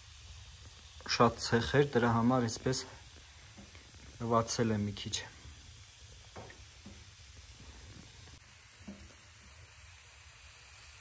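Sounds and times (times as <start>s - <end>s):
mushrooms sizzling faintly: 0.0s - 11.0s.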